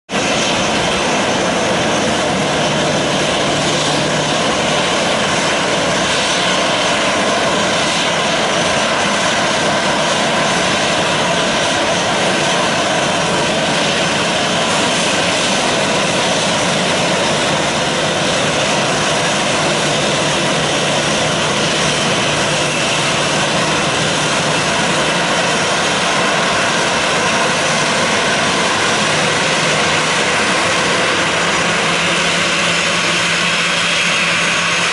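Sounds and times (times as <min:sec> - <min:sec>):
jet engines running: 0:00.1 - 0:34.9.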